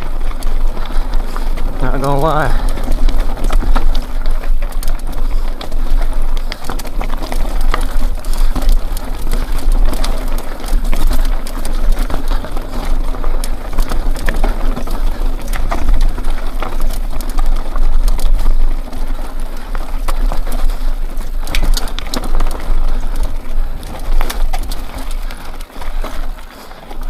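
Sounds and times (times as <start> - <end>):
mountain bike rattling on rocky trail: 0.0 - 27.0.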